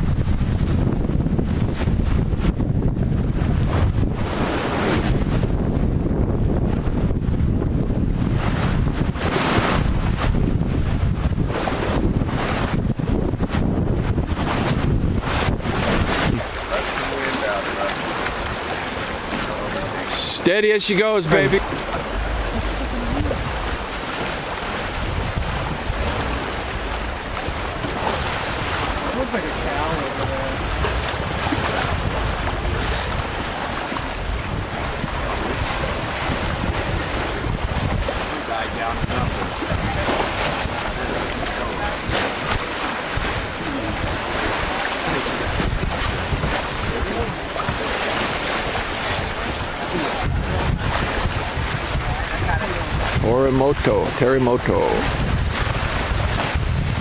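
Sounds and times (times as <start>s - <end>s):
water rushing past hull: 0.0s - 57.0s
wind buffeting microphone: 0.0s - 57.0s.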